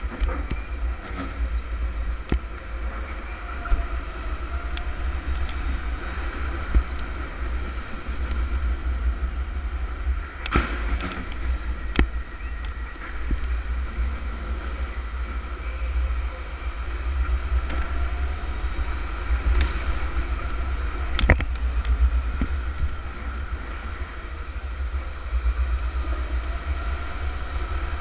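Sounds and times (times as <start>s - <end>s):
electric go-kart rumble and whine: 0.0s - 28.0s.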